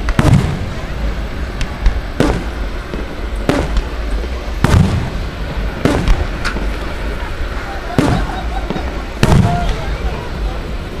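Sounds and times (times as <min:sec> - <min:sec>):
faint firework cracks: 0:00.0 - 0:10.1
firework booms with rumble: 0:00.0 - 0:10.8.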